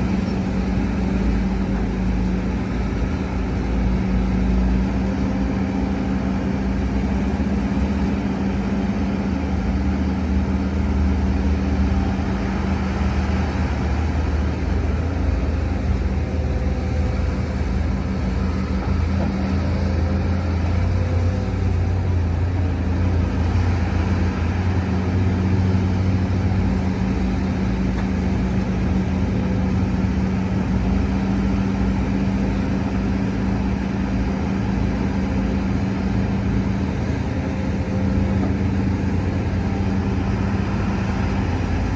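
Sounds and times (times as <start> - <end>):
deeper engine drone: 0.0 - 41.9
diesel earthmoving machinery running: 0.0 - 41.9.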